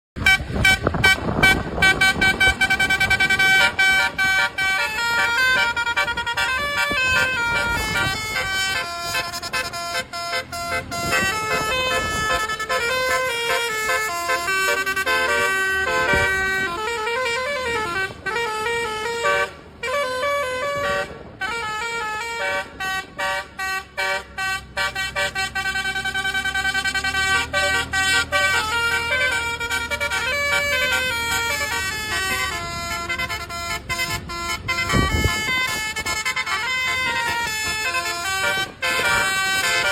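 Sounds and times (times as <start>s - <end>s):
bus musical air horn melody: 0.2s - 39.9s.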